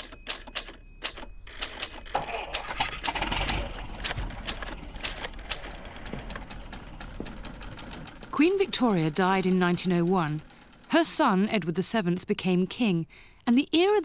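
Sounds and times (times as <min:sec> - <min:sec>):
mechanical clicks and rattles: 0:00.0 - 0:11.4.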